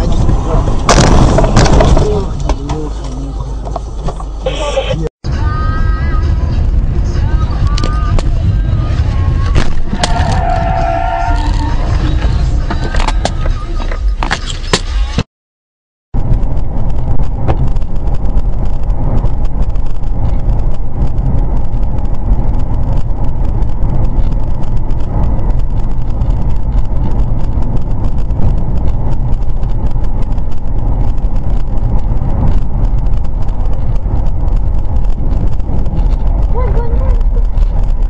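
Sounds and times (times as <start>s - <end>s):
car engine and road noise: 0.0s - 15.3s, 16.1s - 38.0s.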